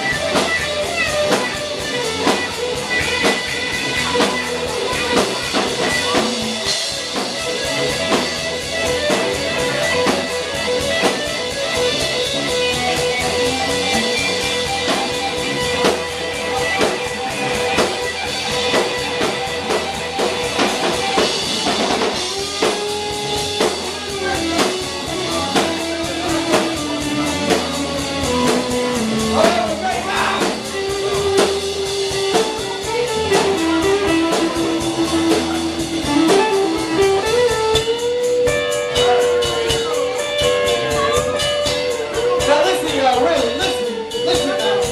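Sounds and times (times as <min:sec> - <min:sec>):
bass: 0:00.0 - 0:44.9
drum kit: 0:00.0 - 0:44.9
electric guitar: 0:00.0 - 0:44.9.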